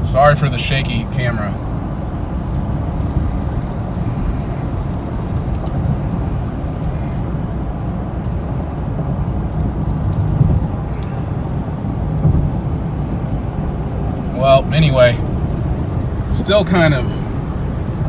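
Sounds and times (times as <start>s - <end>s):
rough engine and road rumble: 0.0s - 18.0s.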